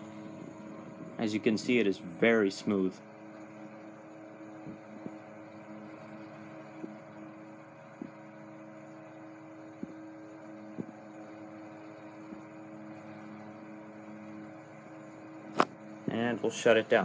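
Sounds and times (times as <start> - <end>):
desk fan humming: 0.0 - 17.0.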